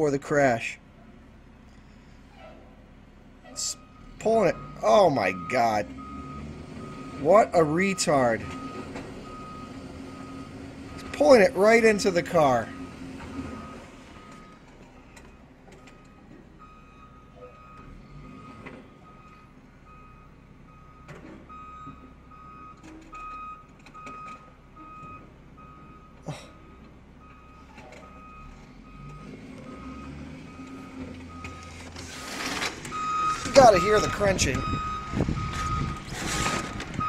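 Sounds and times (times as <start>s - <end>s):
diesel engines rumbling: 0.0s - 37.0s
reversing alarm beeping: 3.6s - 37.0s.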